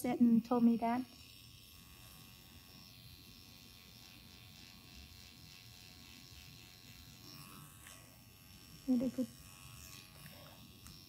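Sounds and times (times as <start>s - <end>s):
tattoo pen buzzing: 0.0s - 11.0s.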